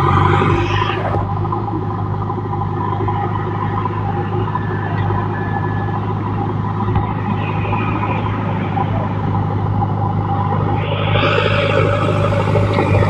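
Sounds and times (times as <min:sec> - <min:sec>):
digger diesel engine drone: 0:00.0 - 0:13.0.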